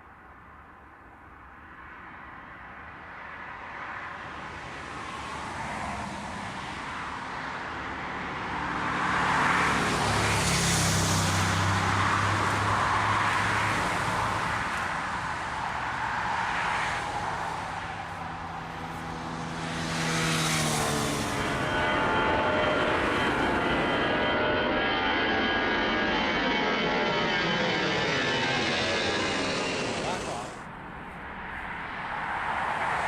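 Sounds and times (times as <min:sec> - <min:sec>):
jet airliner engines running: 0:01.2 - 0:33.0.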